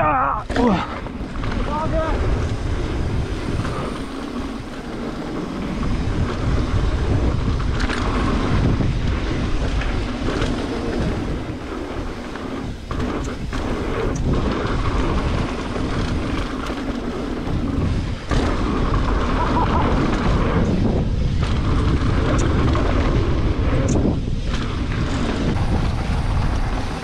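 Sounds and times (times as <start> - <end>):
mountain bike rolling on dirt: 0.0 - 27.0
wind buffeting microphone: 0.0 - 27.0.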